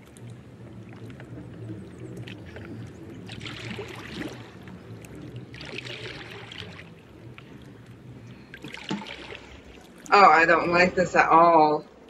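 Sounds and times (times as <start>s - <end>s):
low hum: 0.0s - 12.0s
water splashing and lapping: 0.0s - 12.0s.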